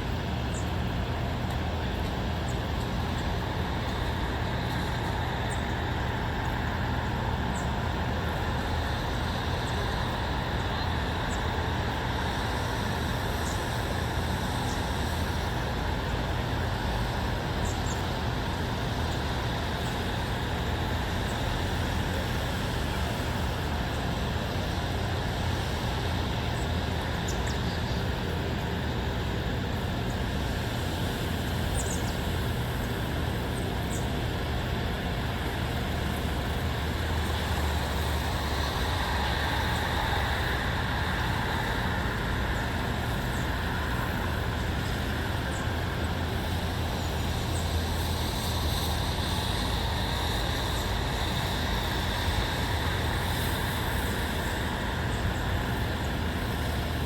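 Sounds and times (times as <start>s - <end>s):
hiss: 0.5s - 57.0s.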